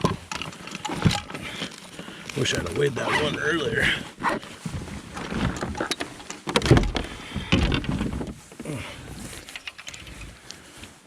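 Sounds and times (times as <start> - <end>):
gear knocking and rustling: 0.0 - 11.0.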